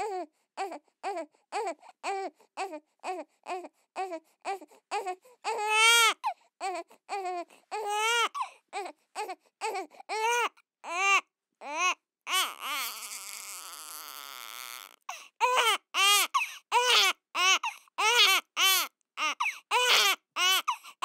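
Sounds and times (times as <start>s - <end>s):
baby crying: 0.0s - 21.0s.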